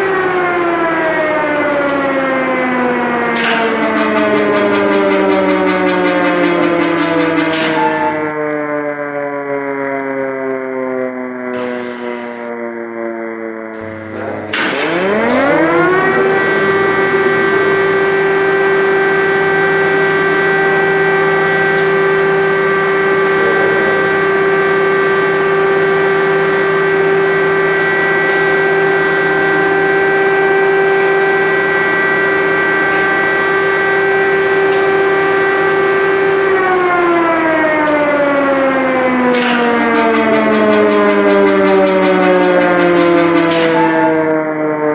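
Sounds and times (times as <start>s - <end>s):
air-raid siren: 0.0s - 44.9s.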